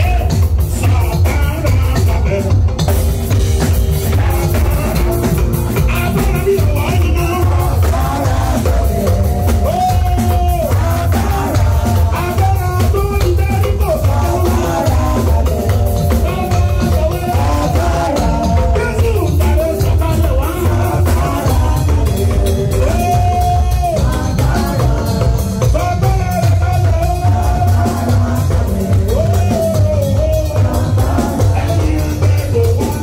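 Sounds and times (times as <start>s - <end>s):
band with drums and bass: 0.0s - 33.0s
choir singing gospel: 0.0s - 33.0s.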